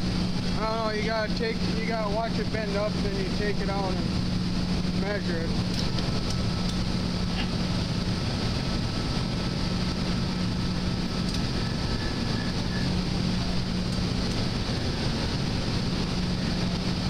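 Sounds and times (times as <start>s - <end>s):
shop machinery humming: 0.0s - 17.0s.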